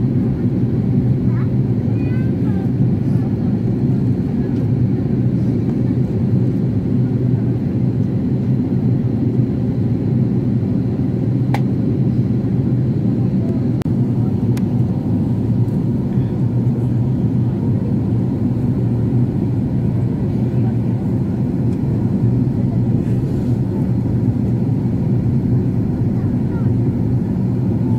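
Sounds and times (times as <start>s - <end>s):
jet engine cabin drone: 0.0s - 27.9s.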